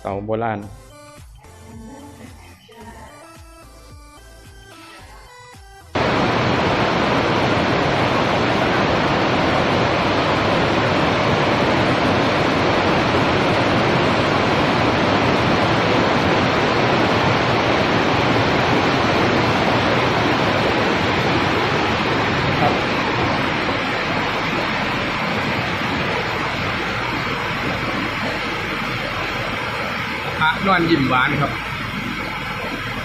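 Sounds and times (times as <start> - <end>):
loud steady rushing noise: 5.9 - 33.0.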